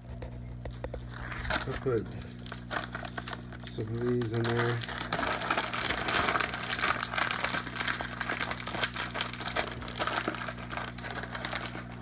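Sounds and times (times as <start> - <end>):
steady low hum: 0.0 - 12.0
plastic packaging crinkling: 0.8 - 12.0.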